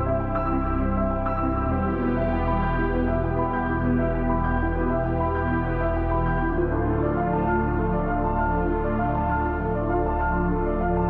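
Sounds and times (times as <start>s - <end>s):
soft sustained chord music: 0.0s - 11.0s.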